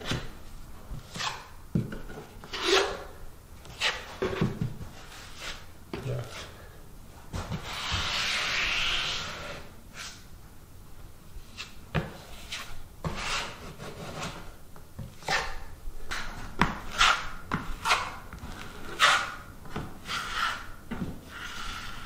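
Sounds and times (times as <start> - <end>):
taping knife scraping compound: 1.0 - 6.6, 7.5 - 10.2, 11.5 - 14.6, 15.2 - 22.0.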